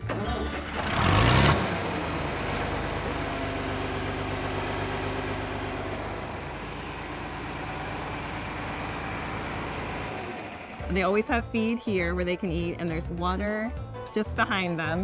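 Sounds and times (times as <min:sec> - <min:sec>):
engine idling: 0:00.0 - 0:12.1.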